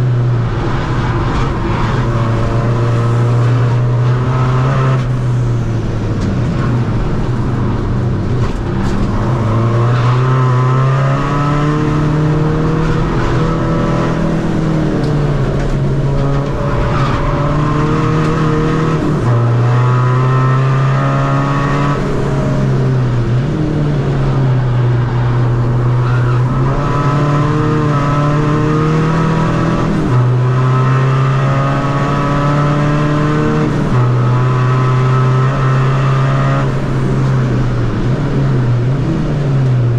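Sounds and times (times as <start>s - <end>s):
diesel engine revving through gears: 0.0s - 39.9s.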